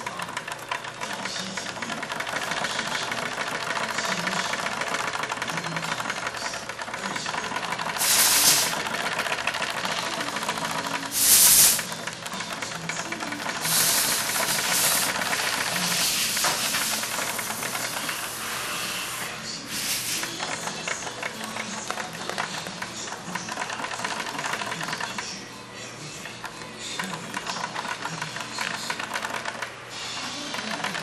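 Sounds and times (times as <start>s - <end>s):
sewing machine rattling: 0.0s - 18.4s, 19.7s - 25.4s, 26.3s - 31.0s.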